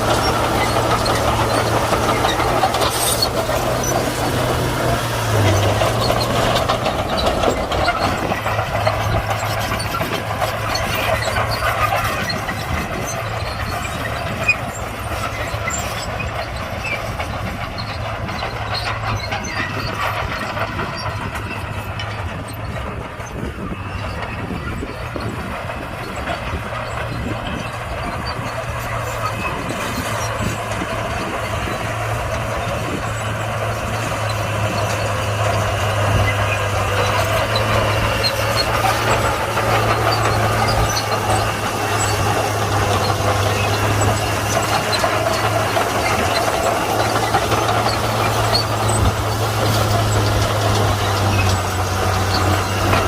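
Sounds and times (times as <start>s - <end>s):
bulldozer diesel engine drone: 0.0s - 53.0s
steel tracks rattling: 0.0s - 53.0s.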